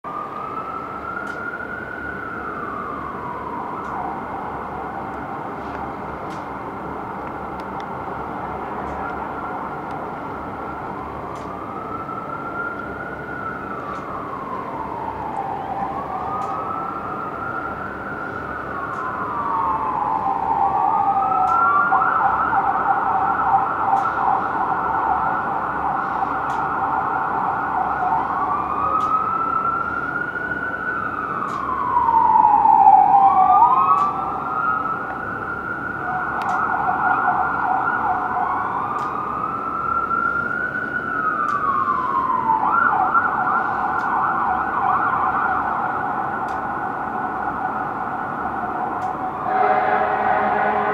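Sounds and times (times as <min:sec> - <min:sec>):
fire engine siren wailing: 0:00.0 - 0:50.9
siren rapid yelp: 0:00.1 - 0:05.6, 0:08.9 - 0:50.9.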